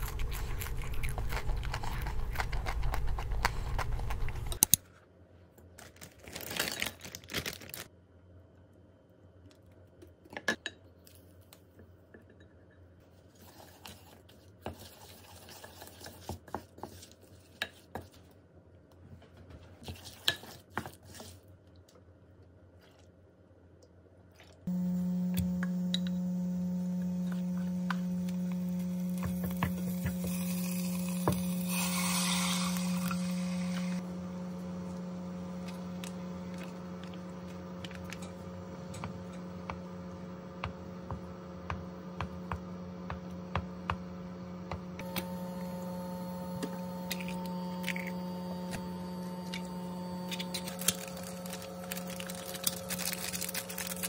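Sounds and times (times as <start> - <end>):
cooktop electric hum: 0.0 - 54.0.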